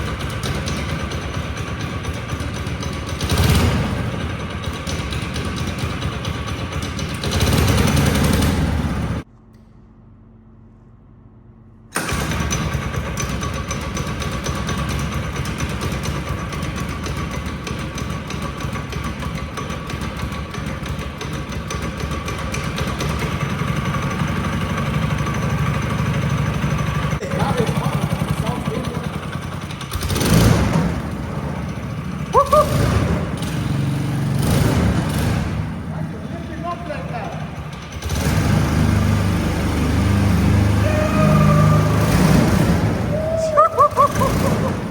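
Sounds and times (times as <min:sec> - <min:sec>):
small engine running: 0:00.0 - 0:09.2, 0:12.0 - 0:44.9.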